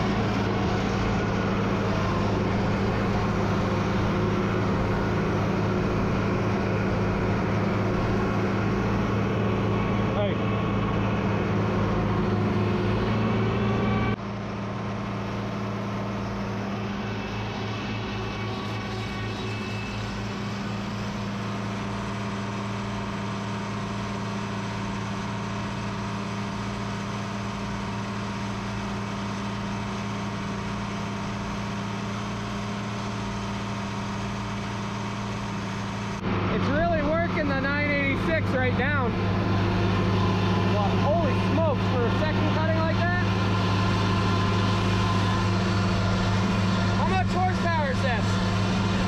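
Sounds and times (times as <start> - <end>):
engine droning: 0.0 - 49.0.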